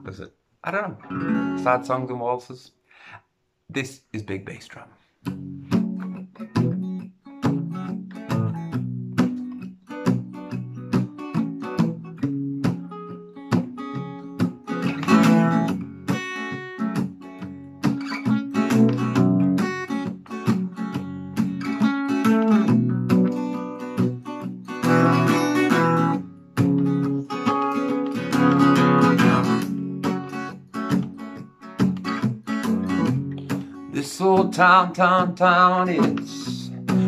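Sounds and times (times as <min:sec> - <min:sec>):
acoustic guitar playing: 0:00.0 - 0:02.4, 0:05.2 - 0:37.0.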